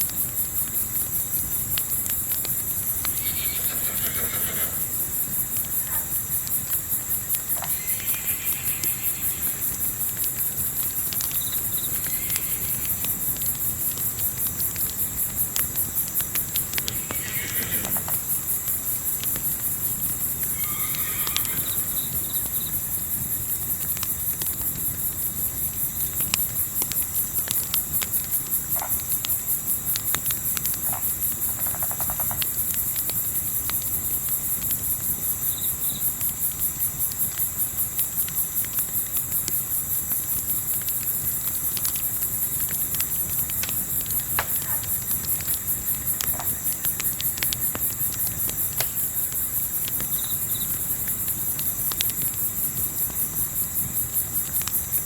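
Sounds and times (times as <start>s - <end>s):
campfire popping and crackling: 0.0s - 55.0s
crickets chirping: 0.0s - 55.0s.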